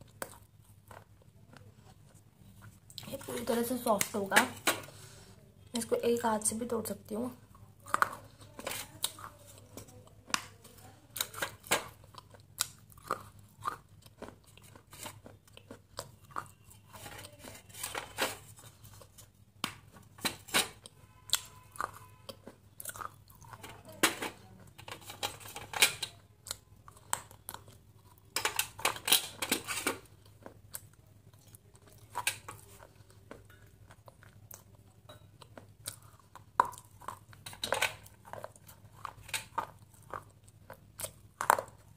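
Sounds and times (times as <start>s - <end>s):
biting and chewing soft chunks: 0.0s - 4.2s, 7.4s - 41.9s.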